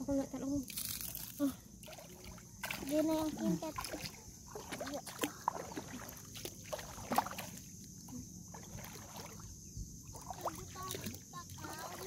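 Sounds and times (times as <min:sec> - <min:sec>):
water sloshing and lapping: 0:00.1 - 0:12.0
person wading through water: 0:01.1 - 0:12.0.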